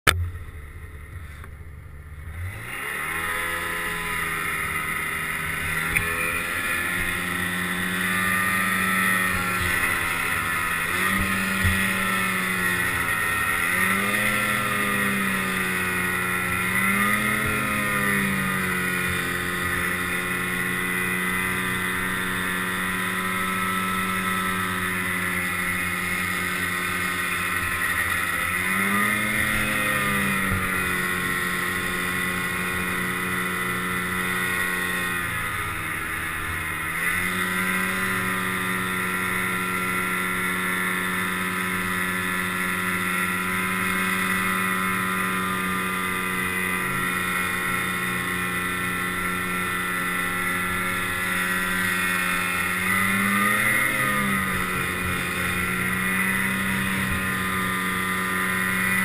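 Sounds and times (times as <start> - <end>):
snowmobile engine revving: 0.1 - 59.0.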